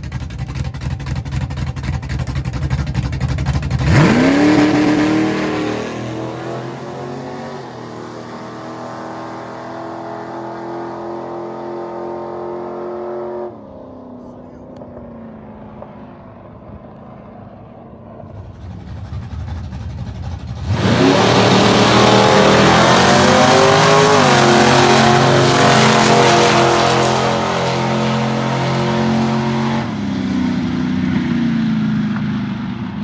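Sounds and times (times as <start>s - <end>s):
drag car engine at full throttle: 0.0s - 33.0s.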